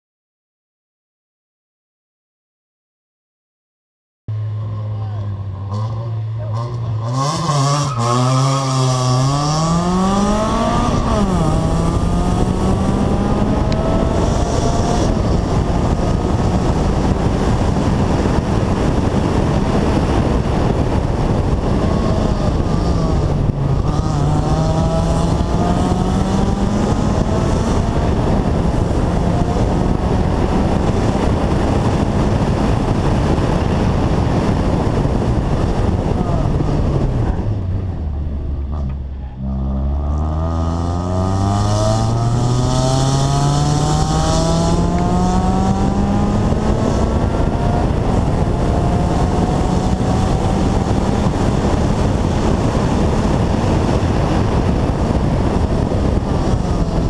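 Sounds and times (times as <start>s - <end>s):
wind and road noise: 4.3s - 57.0s
rally car engine revving: 4.4s - 57.0s.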